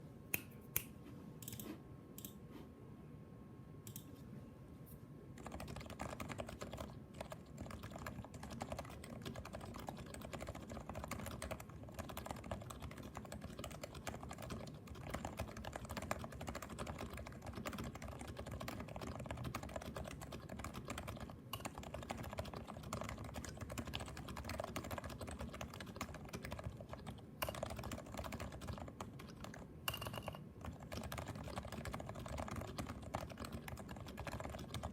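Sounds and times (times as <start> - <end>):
keyboard typing: 5.4 - 34.9.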